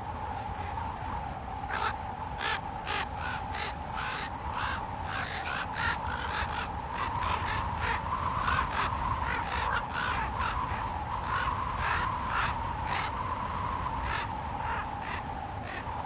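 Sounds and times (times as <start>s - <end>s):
crows cawing: 1.7s - 13.1s, 14.0s - 15.9s.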